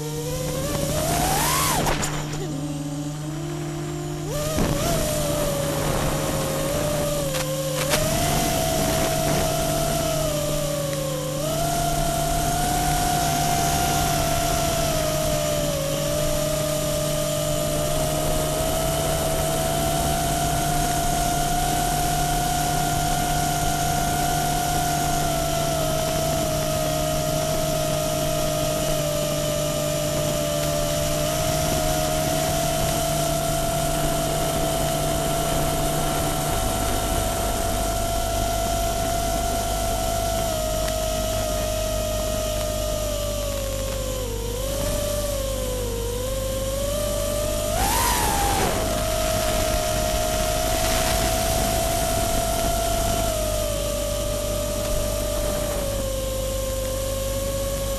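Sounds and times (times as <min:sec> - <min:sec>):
drone propellers whining: 0:00.0 - 0:57.9.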